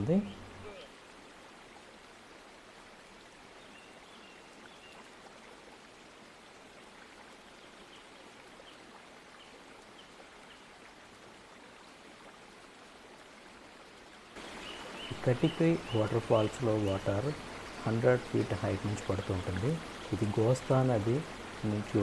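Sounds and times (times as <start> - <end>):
faint waterfall rushing: 0.0 - 22.0.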